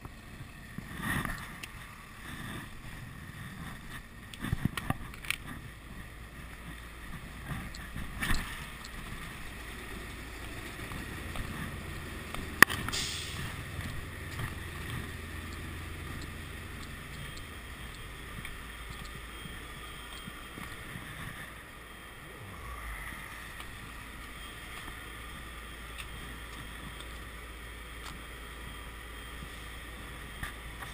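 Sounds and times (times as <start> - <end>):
diesel truck engines idling: 5.3 - 30.9.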